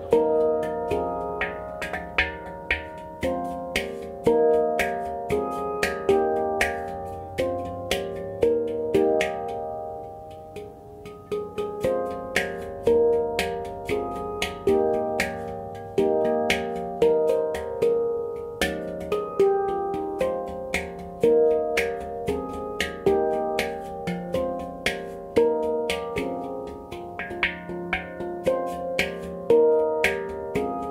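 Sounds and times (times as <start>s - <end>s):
handpan notes struck by hand: 0.0s - 30.9s.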